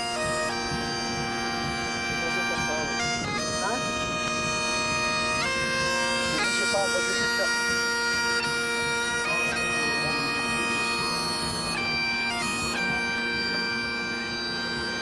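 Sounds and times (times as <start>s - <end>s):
bagpipe playing over a drone: 0.0s - 15.0s
bombarde playing a melody: 0.0s - 15.0s.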